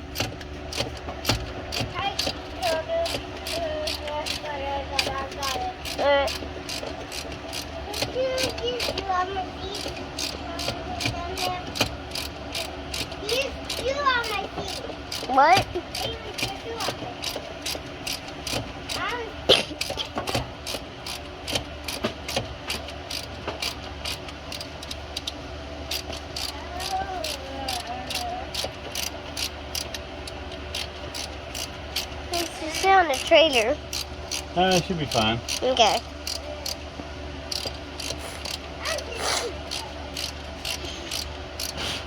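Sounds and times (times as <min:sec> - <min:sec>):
ratchet wrench clicking: 0:00.1 - 0:09.0, 0:09.8 - 0:36.8, 0:37.5 - 0:39.0, 0:39.7 - 0:41.8.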